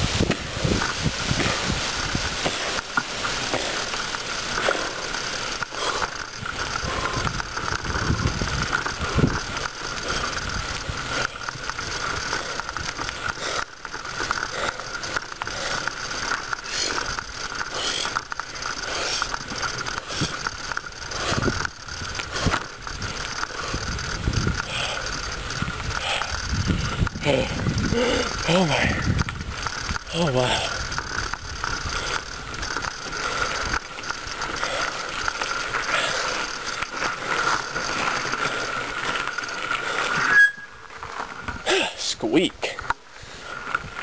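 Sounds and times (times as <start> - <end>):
bicycle freewheel ratcheting: 0.0 - 44.0
rattle of moving bike: 0.0 - 44.0.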